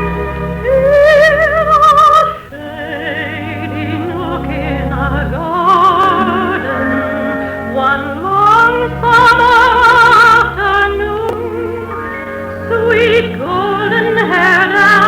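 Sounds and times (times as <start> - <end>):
orchestral music: 0.0 - 15.0.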